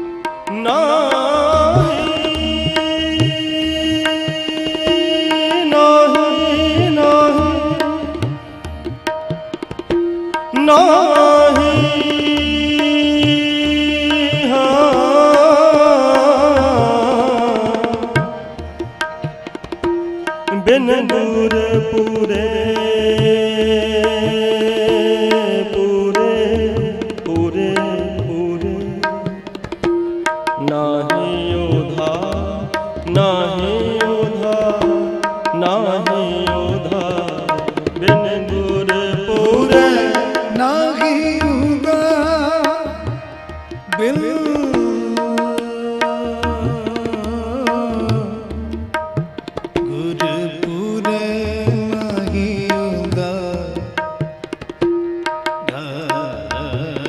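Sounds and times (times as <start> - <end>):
harmonium melody: 0.0 - 57.0
person singing ornamented lines: 0.0 - 57.0
tabla rhythm: 0.0 - 57.0.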